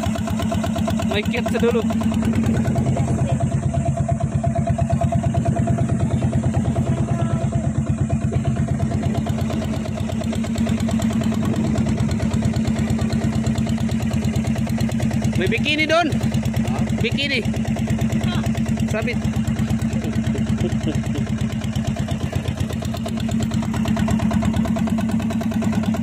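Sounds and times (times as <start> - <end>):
boat engine putter: 0.0 - 26.0.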